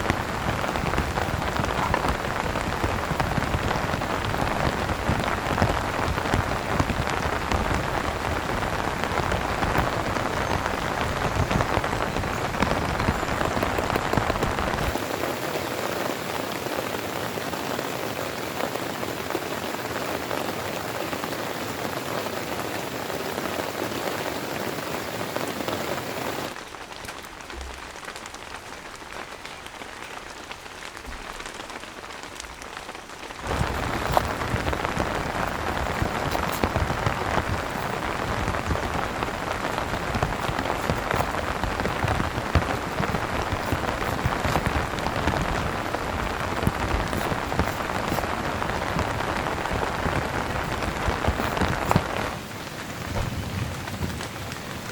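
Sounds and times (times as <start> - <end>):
heavy rain on tent awning: 0.0 - 54.9.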